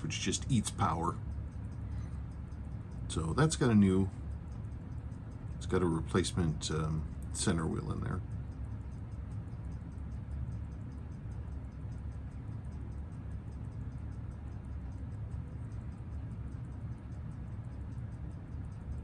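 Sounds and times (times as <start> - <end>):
low hum: 0.0 - 19.0
watch movement ticking fast: 0.0 - 19.0.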